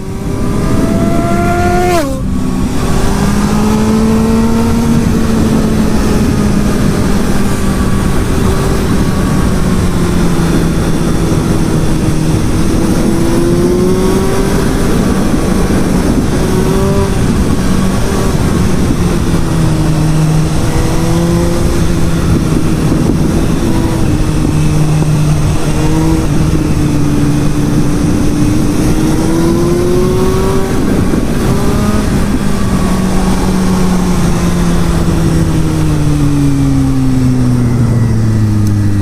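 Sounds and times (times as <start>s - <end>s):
motorcycle engine running: 0.0s - 39.0s
rushing wind noise: 0.0s - 39.0s.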